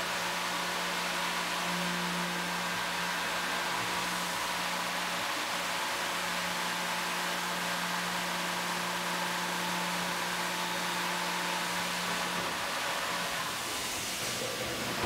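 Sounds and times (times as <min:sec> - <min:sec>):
mill spindle cutting metal: 0:00.0 - 0:15.0.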